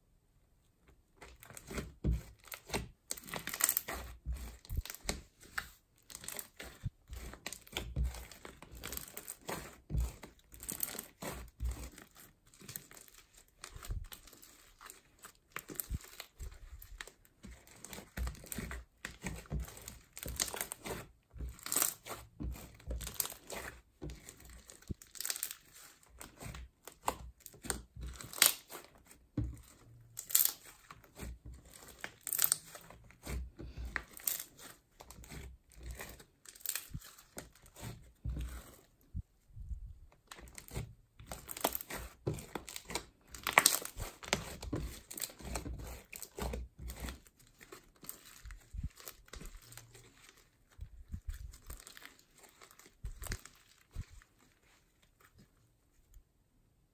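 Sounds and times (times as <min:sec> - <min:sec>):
slime squeezed and pulled by hand: 0:01.2 - 0:55.4.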